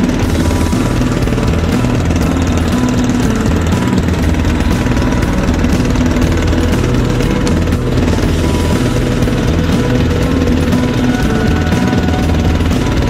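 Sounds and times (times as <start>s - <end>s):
motorboat engine knocking: 0.0s - 13.0s.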